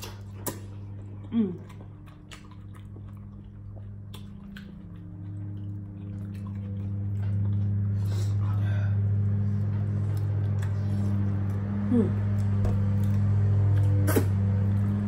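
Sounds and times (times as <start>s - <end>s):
low electrical hum: 0.0s - 15.0s
people chewing and smacking: 0.0s - 15.0s.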